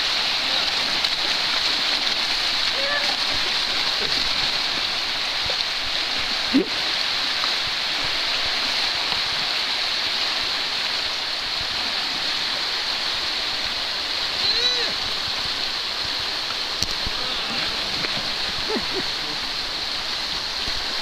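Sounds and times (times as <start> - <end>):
whitewater rapids rushing: 0.0 - 21.0.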